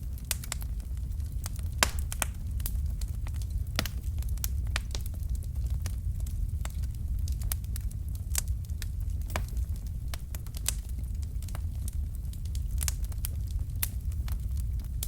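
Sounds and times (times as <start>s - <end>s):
fireplace fire crackling: 0.0s - 15.0s
low rumble of flames: 0.0s - 15.0s.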